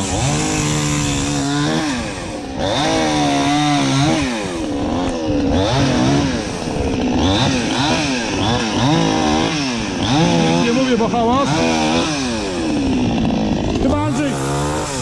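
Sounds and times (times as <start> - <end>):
chainsaw cutting logs: 0.0 - 15.0.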